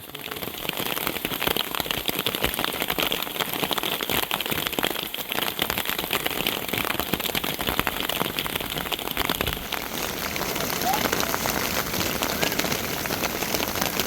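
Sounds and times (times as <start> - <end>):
rain pattering on a surface: 0.0 - 14.0.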